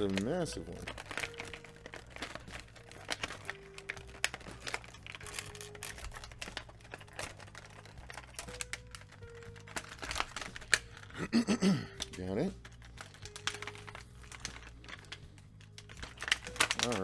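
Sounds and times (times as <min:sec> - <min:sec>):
plastic packaging crinkling: 0:00.0 - 0:17.0
soft background music: 0:00.0 - 0:17.0.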